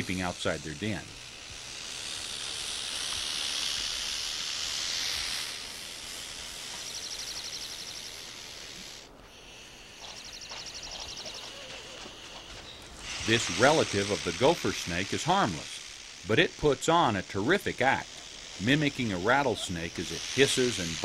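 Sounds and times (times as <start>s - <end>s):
snake hissing: 0.0s - 21.0s
snake rattle-like buzzes: 0.0s - 21.0s.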